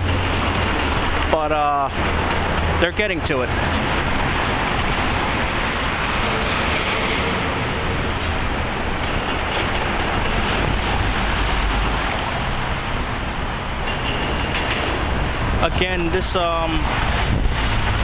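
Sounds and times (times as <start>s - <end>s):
heavy machinery rumble: 0.0s - 18.0s
traffic rumble: 0.0s - 18.0s.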